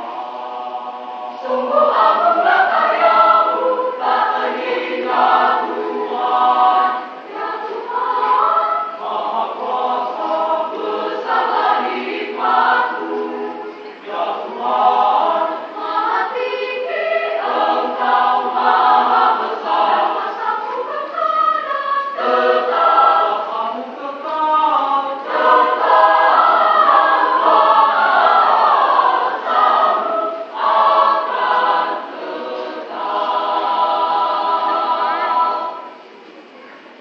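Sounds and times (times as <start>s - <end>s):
choir singing a hymn: 0.0s - 36.5s.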